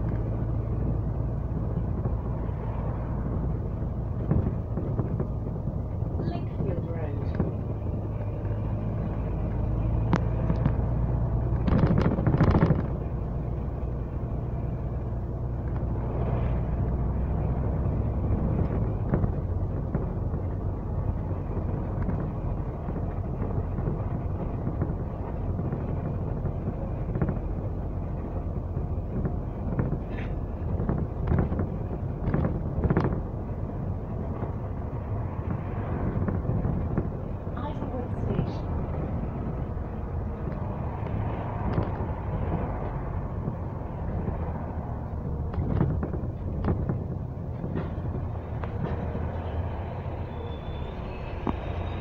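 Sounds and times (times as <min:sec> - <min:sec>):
bus engine and road rumble: 0:00.0 - 0:52.0.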